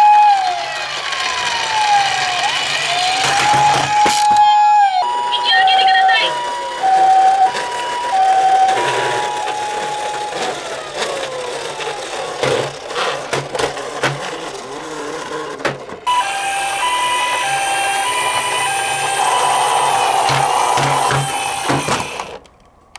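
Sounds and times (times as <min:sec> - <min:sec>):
plastic toy cars clicking: 0:00.0 - 0:05.5, 0:06.3 - 0:22.9
two-tone toy siren: 0:00.0 - 0:12.8, 0:16.1 - 0:22.4
toy siren winding down: 0:00.0 - 0:13.0, 0:13.8 - 0:22.4.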